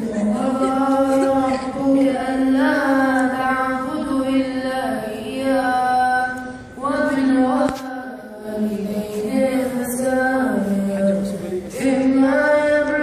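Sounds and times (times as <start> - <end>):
boy chanting melodically: 0.0 - 13.0.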